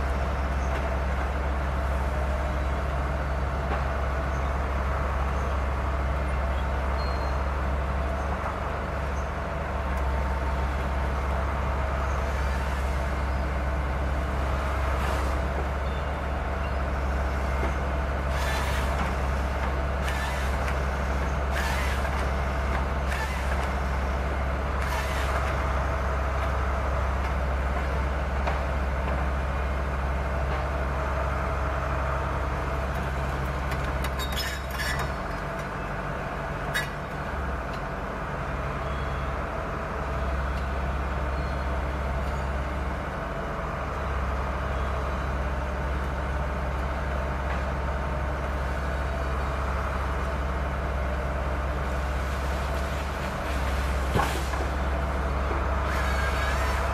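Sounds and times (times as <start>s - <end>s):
excavator diesel engine droning: 0.0s - 56.9s.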